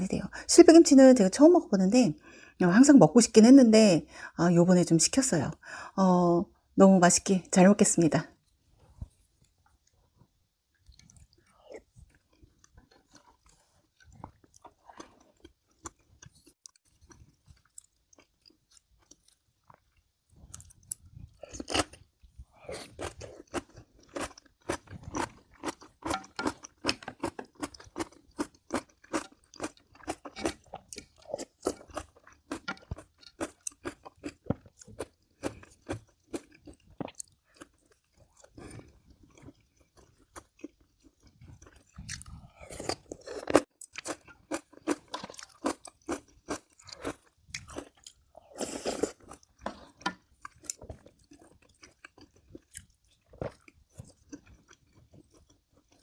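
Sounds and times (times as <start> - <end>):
person crunching food: 10.7 - 56.0.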